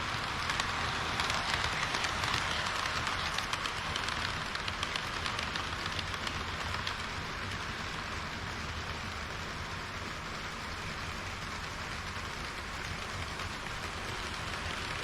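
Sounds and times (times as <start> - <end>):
model train wheels hissing: 0.0 - 15.0
wheels clicking over rail joints: 0.0 - 15.0.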